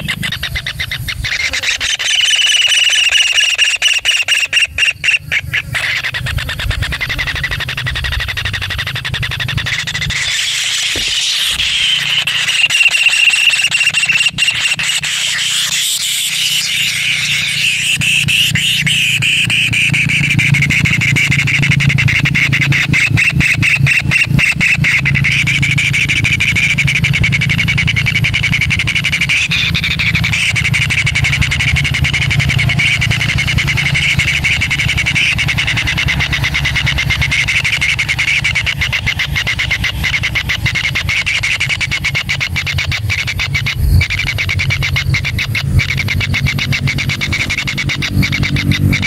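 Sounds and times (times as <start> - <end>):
low steady hum: 0.0 - 49.0
nestlings churring: 0.0 - 49.0.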